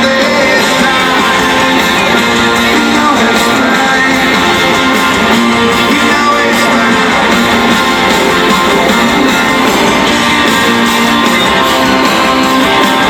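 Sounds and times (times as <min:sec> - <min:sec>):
live rock band with strummed guitars: 0:00.0 - 0:13.0.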